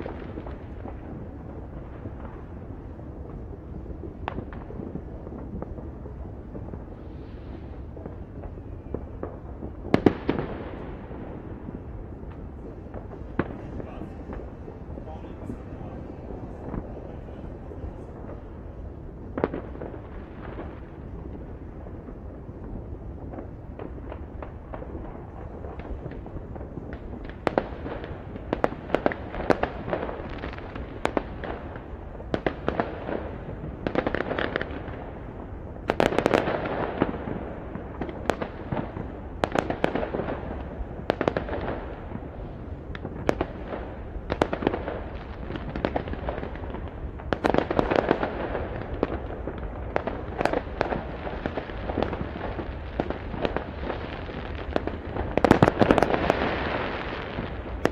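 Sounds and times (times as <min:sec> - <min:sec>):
distant crackling and rumbling: 0:00.0 - 0:57.9
fireworks bangs and pops: 0:00.0 - 0:57.9.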